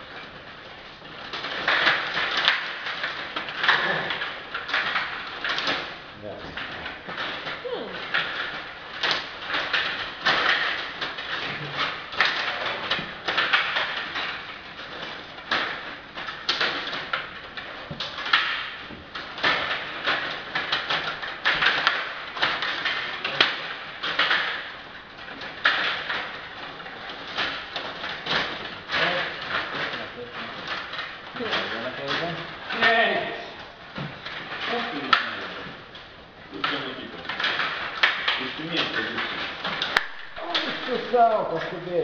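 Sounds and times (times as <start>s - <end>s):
table hockey plastic clatter: 0.0s - 42.0s.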